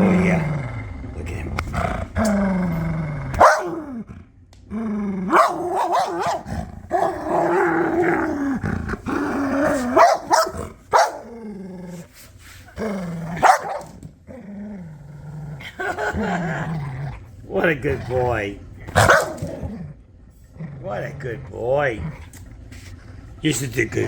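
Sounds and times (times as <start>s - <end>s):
dog growling: 0.0s - 22.5s.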